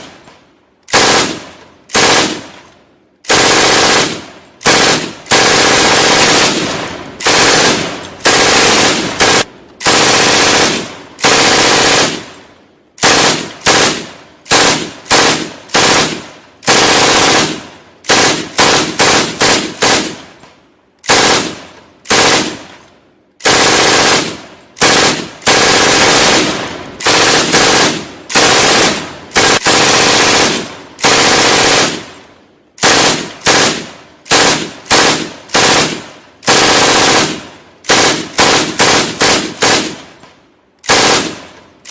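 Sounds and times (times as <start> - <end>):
bursts of automatic gunfire: 0.9 - 2.7, 3.3 - 20.4, 21.0 - 22.8, 23.4 - 40.2, 40.8 - 41.9.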